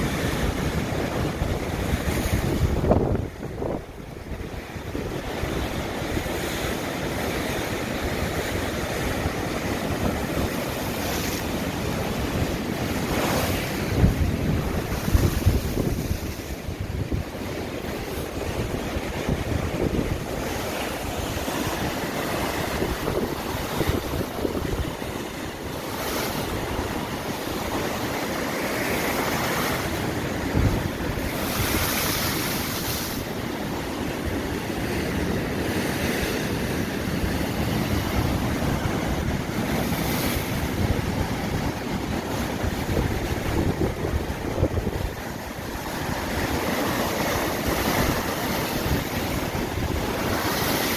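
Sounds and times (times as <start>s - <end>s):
sea surf breaking on shore: 0.0s - 50.9s
wind buffeting microphone: 0.0s - 50.9s.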